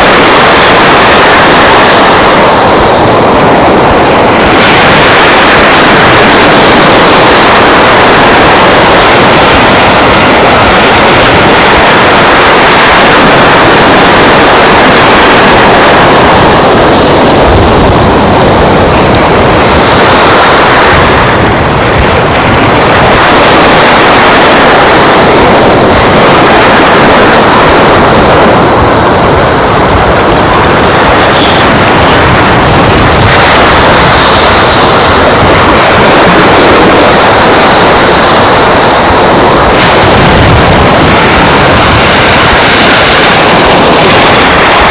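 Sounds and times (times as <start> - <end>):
breaking surf rushing: 0.0 - 44.9
wind blowing on microphone: 0.0 - 44.9.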